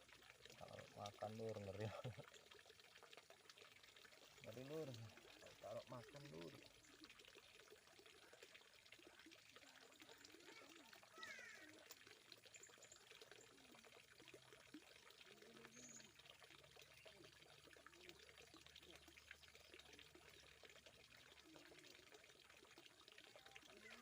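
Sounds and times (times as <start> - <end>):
faint trickle of running water: 0.0 - 24.0.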